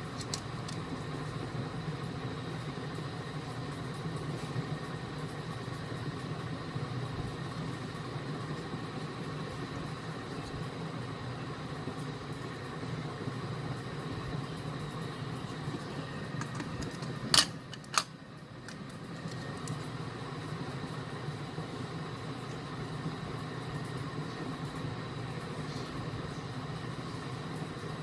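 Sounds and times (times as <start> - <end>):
fan-like hum: 0.0 - 28.0.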